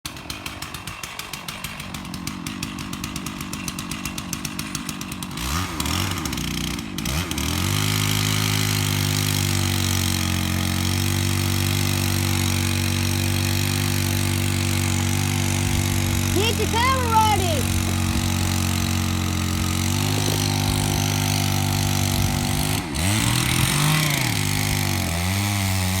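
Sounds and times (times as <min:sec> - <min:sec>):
chainsaw engine idling and revving: 0:00.0 - 0:26.0.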